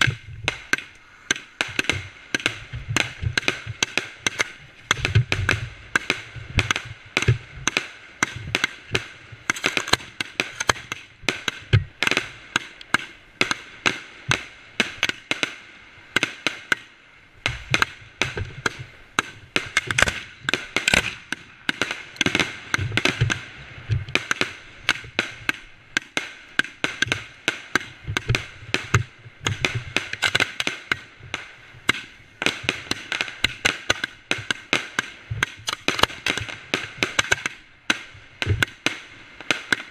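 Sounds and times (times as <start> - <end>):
fireworks cracking and popping: 0.0 - 39.9.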